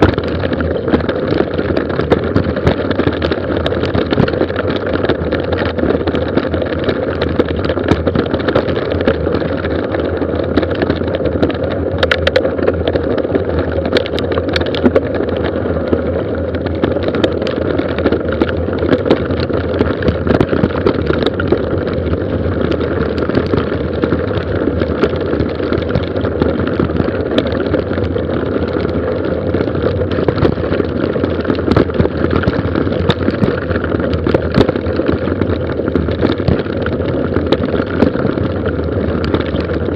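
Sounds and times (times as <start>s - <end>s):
bike rattling: 0.0s - 39.9s
tyres rumbling on gravel: 0.0s - 39.9s.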